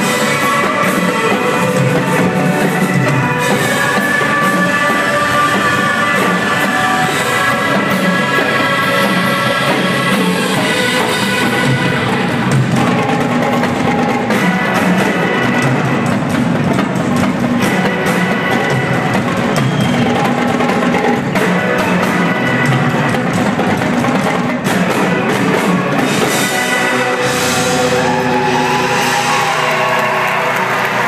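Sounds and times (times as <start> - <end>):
drum kit beat: 0.0 - 31.0
live rock band playing: 0.0 - 31.0.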